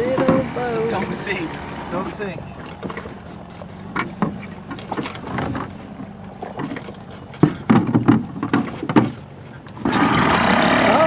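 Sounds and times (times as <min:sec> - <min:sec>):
boat knocks and bumps: 0:00.0 - 0:01.4, 0:02.5 - 0:11.0.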